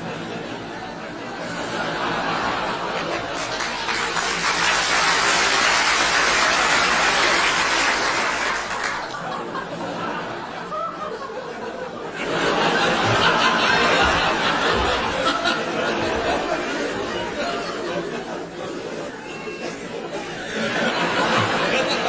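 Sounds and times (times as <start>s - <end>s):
crowd chattering and laughing: 0.0s - 22.0s.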